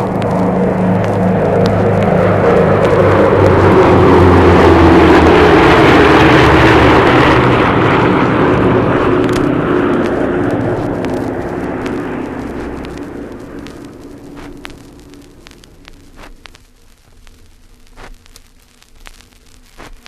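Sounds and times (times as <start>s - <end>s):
vinyl record clicks and pops: 0.0s - 3.7s, 7.0s - 20.0s
aircraft engine noise: 0.0s - 18.2s.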